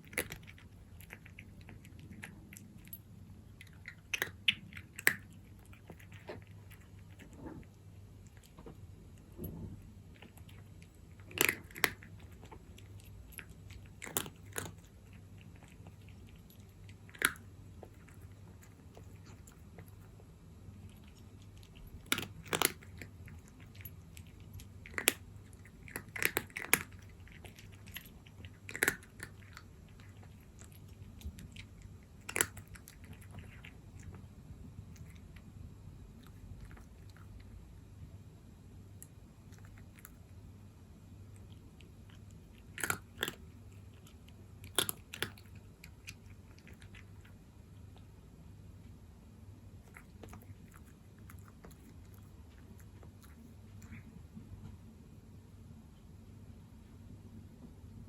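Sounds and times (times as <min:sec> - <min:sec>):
cat crunching dry kibble: 0:00.0 - 0:37.5, 0:39.0 - 0:40.4, 0:41.3 - 0:48.1, 0:49.7 - 0:54.2
faint low hum: 0:00.0 - 0:58.0.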